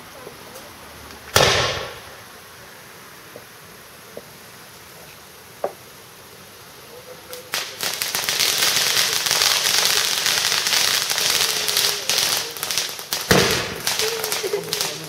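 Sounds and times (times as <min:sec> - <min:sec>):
firework fountains hissing and crackling: 0:00.0 - 0:15.0.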